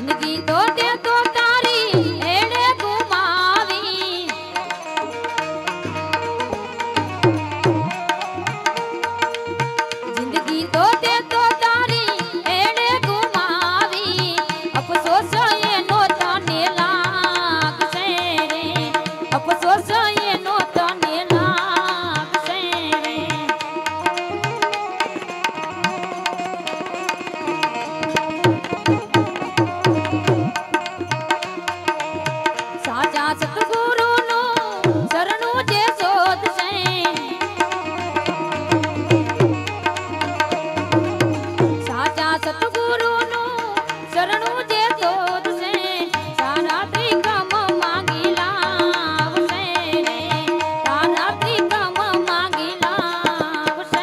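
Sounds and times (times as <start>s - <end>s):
woman singing: 0.0s - 26.0s, 28.2s - 54.0s
harmonium drone: 0.0s - 54.0s
tabla rhythm: 0.0s - 54.0s.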